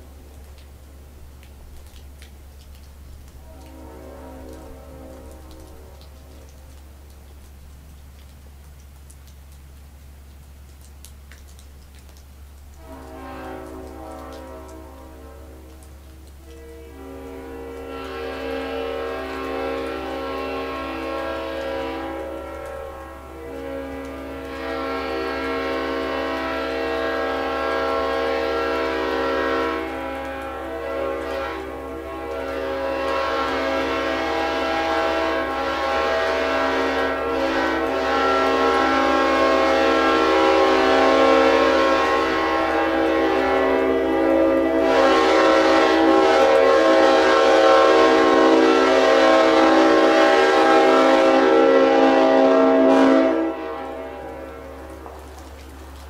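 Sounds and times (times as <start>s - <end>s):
train horn blast: 3.3s - 7.1s, 12.7s - 55.6s.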